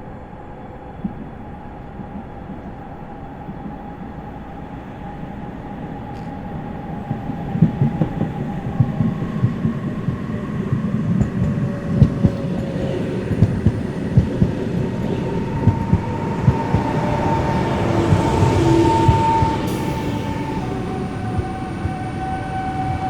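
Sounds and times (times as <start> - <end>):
electric train inverter whine: 0.0 - 23.0.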